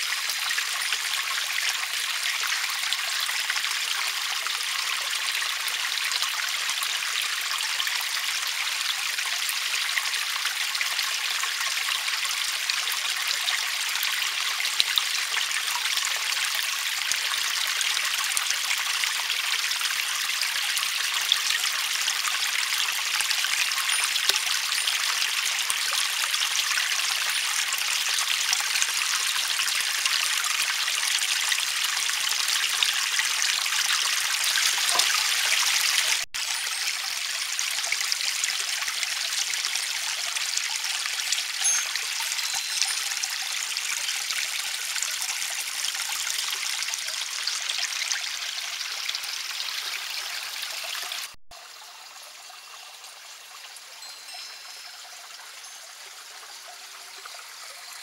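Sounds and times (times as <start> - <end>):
water trickling over stones: 0.0 - 58.0.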